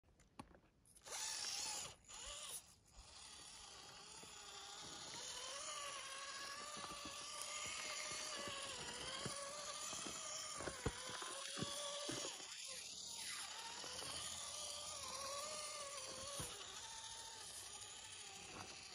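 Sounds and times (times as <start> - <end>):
small electric motor whining: 0.9 - 18.9.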